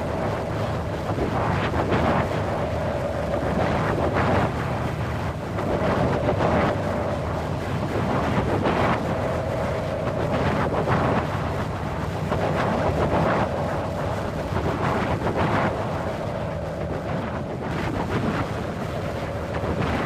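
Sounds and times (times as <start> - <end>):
wind blowing hard in gusts: 0.0 - 20.0.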